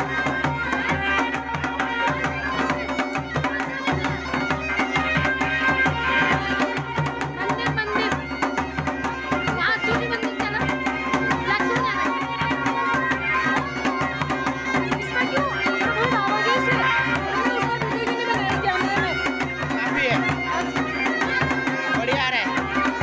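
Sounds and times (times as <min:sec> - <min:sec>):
bagpipes playing a melody: 0:00.0 - 0:23.0
drum beating fast rhythm: 0:00.0 - 0:23.0.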